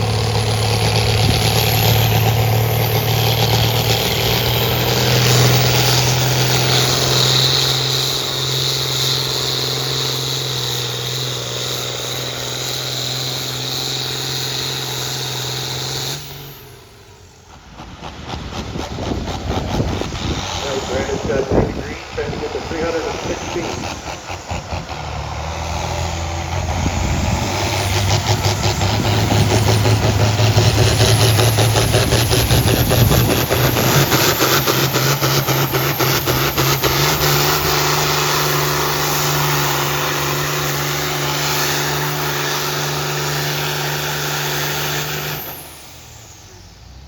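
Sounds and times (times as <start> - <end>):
tractor engine pulling hard: 0.0 - 47.0.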